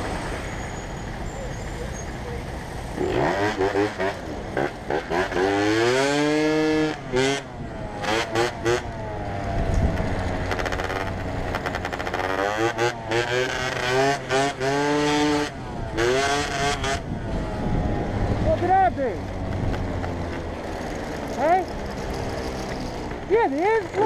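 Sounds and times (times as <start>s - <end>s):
motorcycle engine revving through gears: 0.0s - 24.0s.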